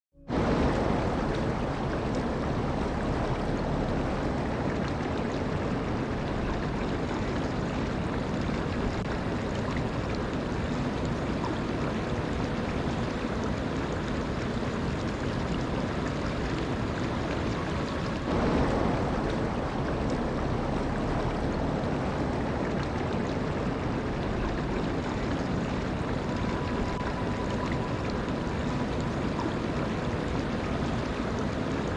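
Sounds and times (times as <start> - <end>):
running water rushing: 0.2 - 31.9.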